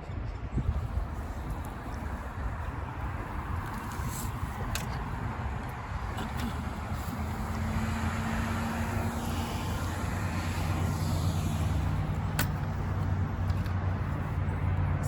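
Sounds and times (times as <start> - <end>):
vehicle engine hum: 0.4 - 15.0.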